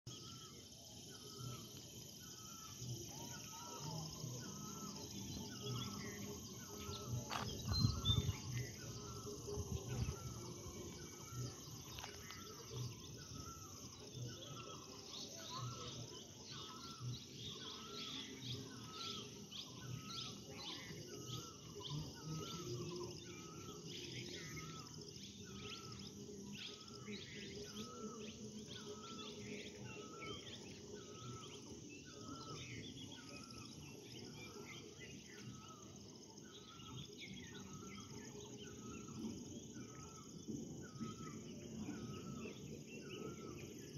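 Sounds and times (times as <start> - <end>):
insects buzzing: 0.1 - 43.9.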